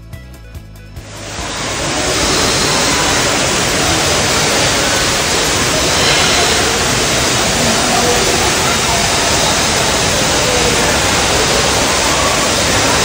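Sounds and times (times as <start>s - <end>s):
loud rushing noise: 1.0s - 13.0s.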